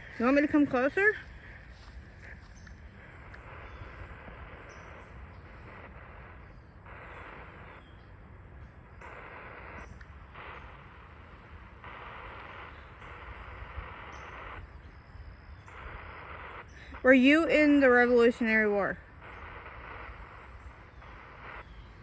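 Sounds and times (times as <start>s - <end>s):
radio static bursts: 0.0s - 22.0s.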